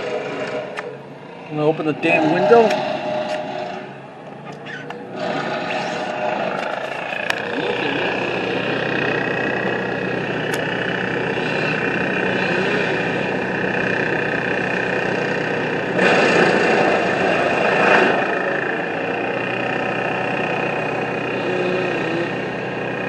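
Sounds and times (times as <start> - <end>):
machinery engine running: 0.0 - 23.0.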